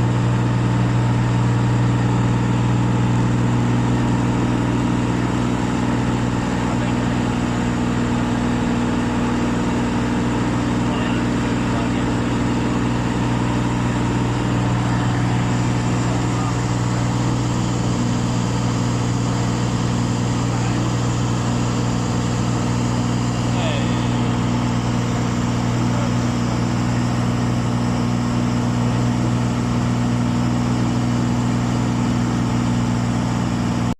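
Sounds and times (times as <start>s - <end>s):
light aircraft engine droning: 0.0s - 33.9s.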